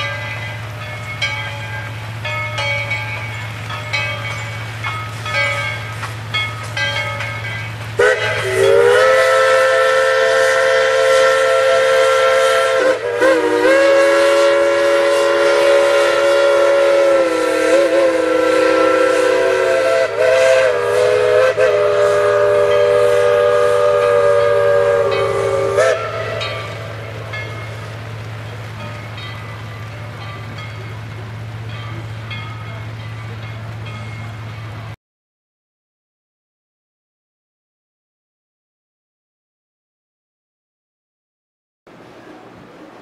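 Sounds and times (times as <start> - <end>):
steam locomotive chime whistle: 0.0 - 35.0.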